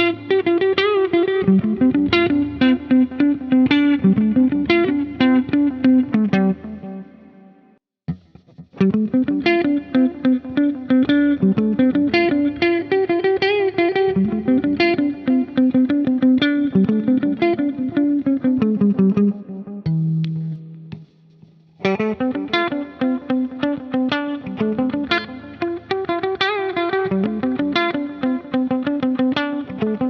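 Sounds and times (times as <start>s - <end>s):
electric guitar notes: 0.0s - 21.1s, 21.8s - 30.0s.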